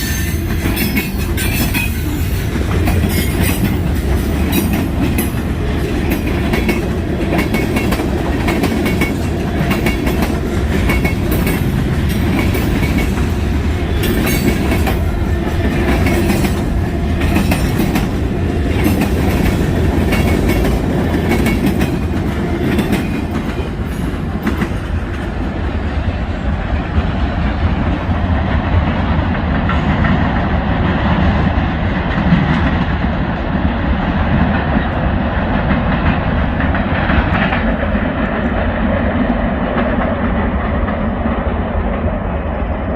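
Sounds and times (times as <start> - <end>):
freight train rumble: 0.0 - 42.9.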